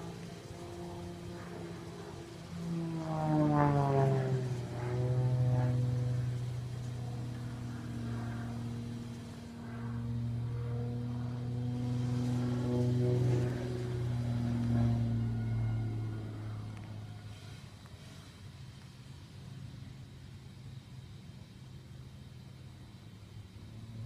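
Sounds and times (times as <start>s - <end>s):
propeller airplane engine droning: 0.0s - 24.0s.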